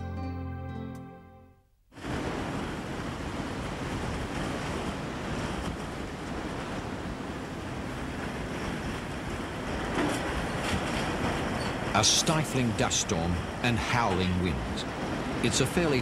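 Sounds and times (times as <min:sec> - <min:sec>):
howling wind: 0:01.9 - 0:16.0.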